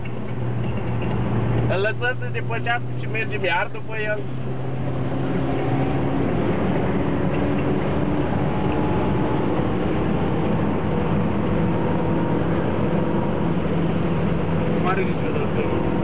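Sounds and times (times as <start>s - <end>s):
car engine droning: 0.0s - 16.0s
road noise: 0.0s - 16.0s.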